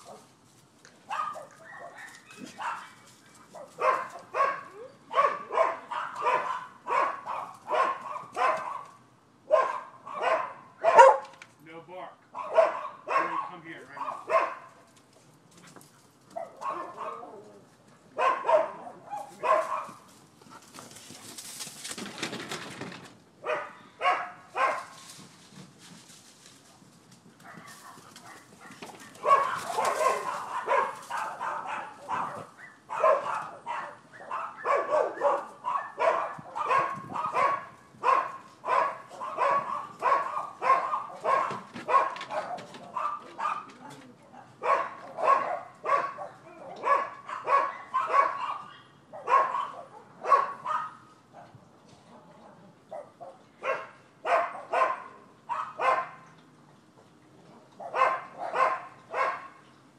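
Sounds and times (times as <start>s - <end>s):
dogs barking: 0.0s - 0.3s, 1.0s - 11.4s, 12.3s - 14.9s, 16.3s - 20.6s, 23.4s - 25.0s, 27.4s - 51.7s, 52.4s - 56.3s, 57.5s - 59.6s.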